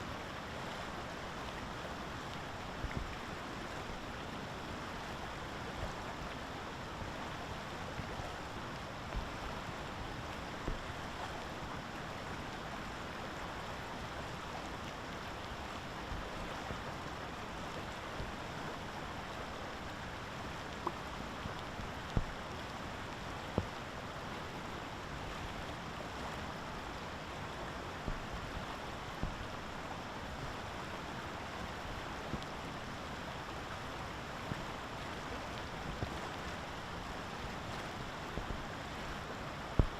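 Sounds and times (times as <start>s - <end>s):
rushing outdoor noise: 0.0s - 39.9s.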